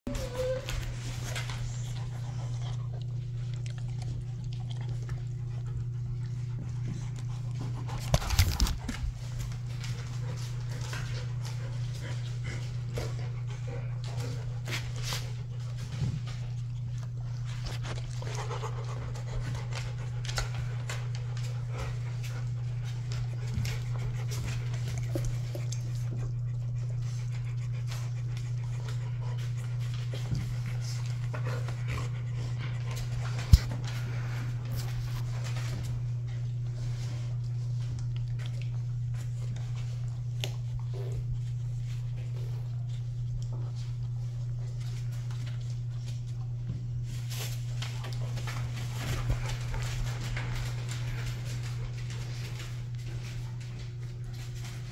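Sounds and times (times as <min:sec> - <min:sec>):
dogs gnawing rubber chew toy: 0:00.1 - 0:54.9
dogs panting: 0:00.1 - 0:54.9
mouthing and scuffling: 0:00.1 - 0:54.9
steady low hum: 0:00.1 - 0:54.9.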